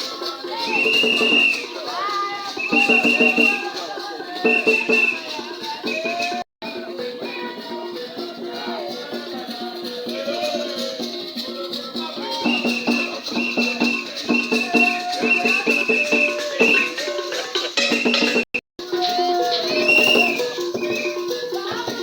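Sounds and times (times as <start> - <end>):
music: 0.0 - 22.0
shaken rattles: 0.0 - 22.0.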